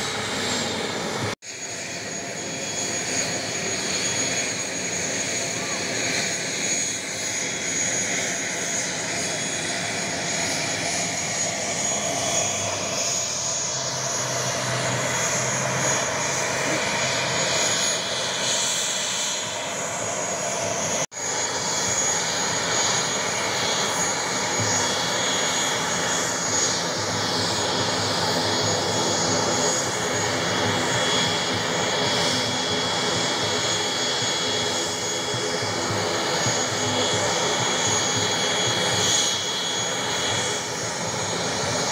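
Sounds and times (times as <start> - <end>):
airliner engines running: 0.0 - 41.9
high engine whine: 0.0 - 41.9.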